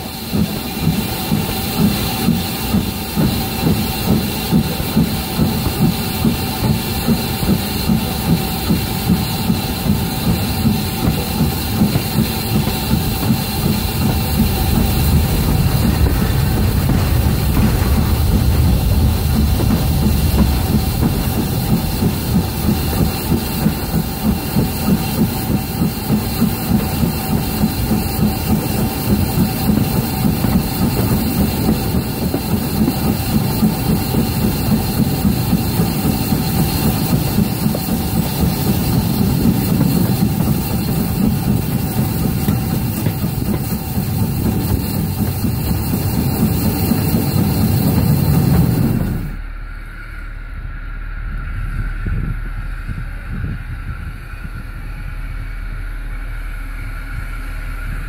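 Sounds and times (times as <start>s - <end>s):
train running with regular beat: 0.0s - 58.0s.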